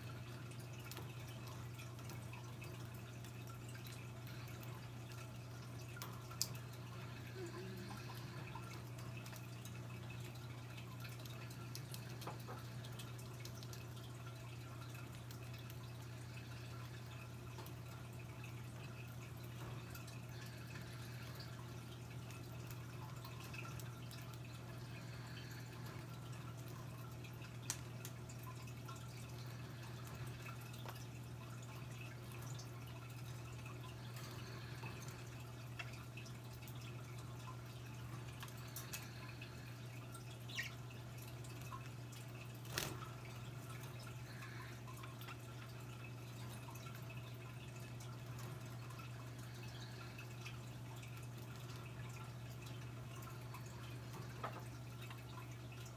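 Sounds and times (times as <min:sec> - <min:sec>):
faint clicks and ticks: 0:00.0 - 0:55.9.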